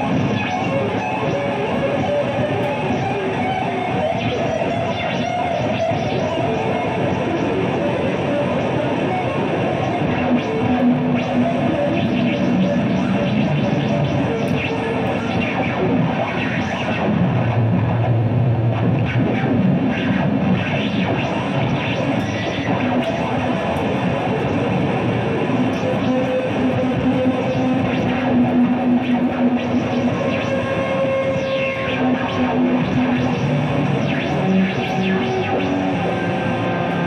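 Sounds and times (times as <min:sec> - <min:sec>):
electric guitar drone: 0:00.0 - 0:37.0.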